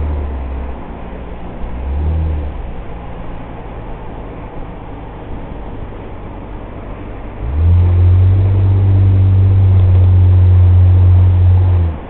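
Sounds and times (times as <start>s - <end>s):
car road noise: 0.0s - 12.0s
loud low drone: 0.0s - 12.0s.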